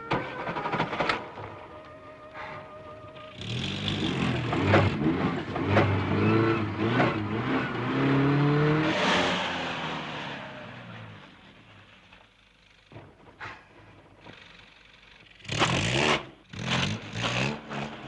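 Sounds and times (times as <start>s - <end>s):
car engine revving: 0.0s - 13.0s, 14.1s - 18.0s.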